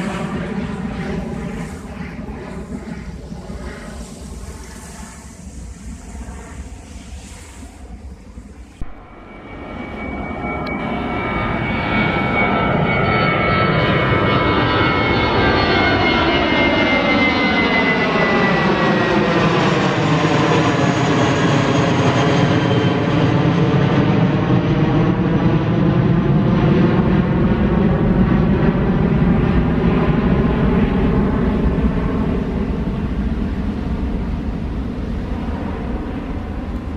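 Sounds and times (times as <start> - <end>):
airplane flying low overhead: 0.0 - 36.9.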